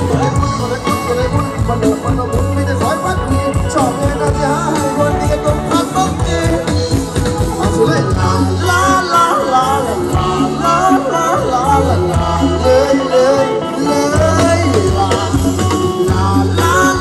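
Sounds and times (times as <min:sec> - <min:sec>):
bass line: 0:00.0 - 0:17.0
live band dance music: 0:00.0 - 0:17.0
person singing: 0:00.0 - 0:17.0.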